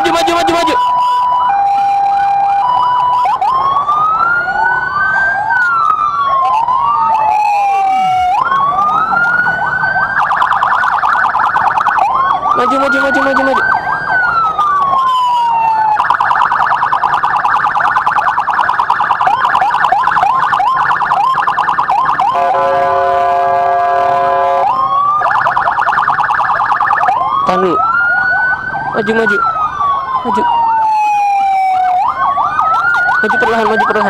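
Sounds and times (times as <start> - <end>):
ambulance siren: 0.0 - 34.0.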